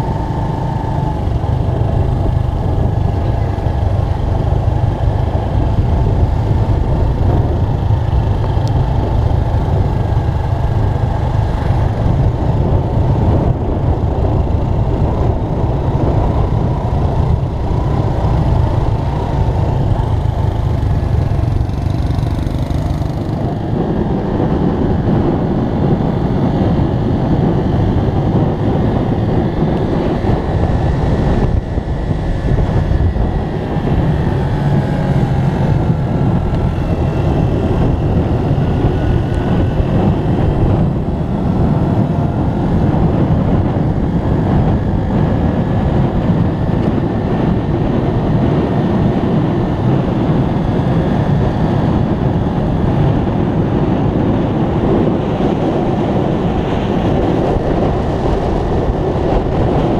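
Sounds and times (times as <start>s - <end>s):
motorbike engine running: 0.0s - 59.9s
wind noise on microphone: 0.0s - 59.9s.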